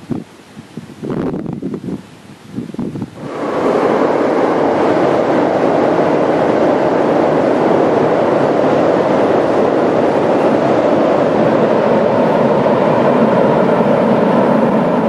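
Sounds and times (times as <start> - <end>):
train wheels rolling on rails: 2.9 - 15.0.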